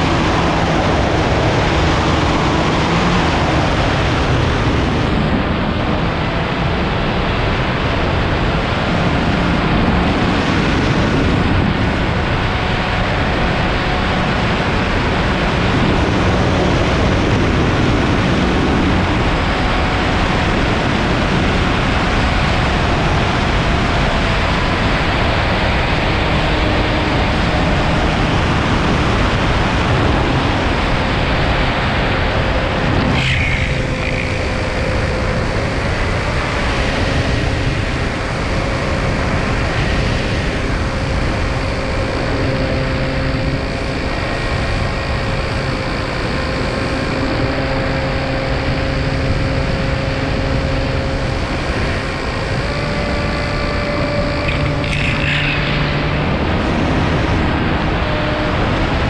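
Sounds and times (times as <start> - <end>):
drone electric motors humming: 0.0 - 59.0
rushing wind on microphone: 0.0 - 59.0.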